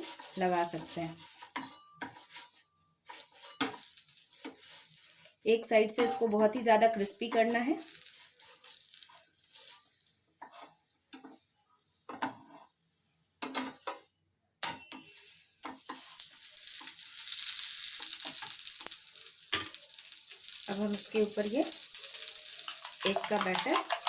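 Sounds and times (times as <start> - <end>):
utensil scraping a pan: 0.0 - 6.3, 7.3 - 11.3, 15.0 - 24.0
oil sizzling: 0.0 - 14.1, 15.0 - 24.0.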